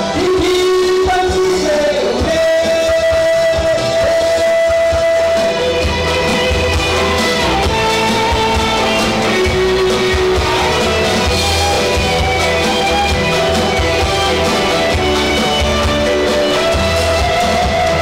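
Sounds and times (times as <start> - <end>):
band with guitar and drums: 0.0 - 18.0
held melody line: 0.0 - 18.0.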